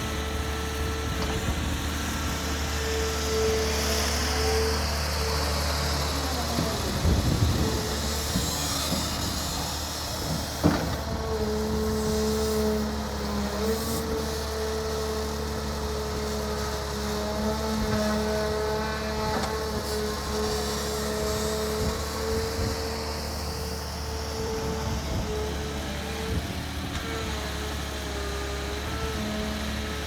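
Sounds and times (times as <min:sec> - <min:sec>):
excavator engine humming: 0:00.0 - 0:30.0.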